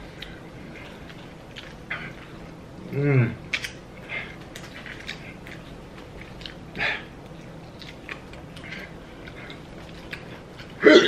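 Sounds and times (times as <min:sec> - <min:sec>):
chewing and mouth smacks: 0:00.0 - 0:02.6, 0:03.4 - 0:10.8.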